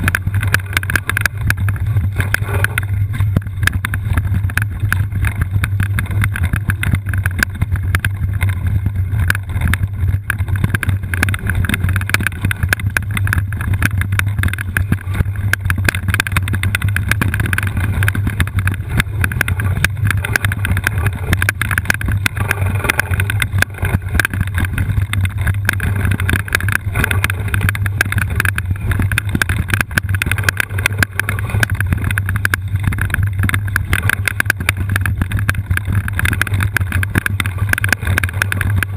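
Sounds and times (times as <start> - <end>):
wheelchair rolling on rough track: 0.0 - 38.9.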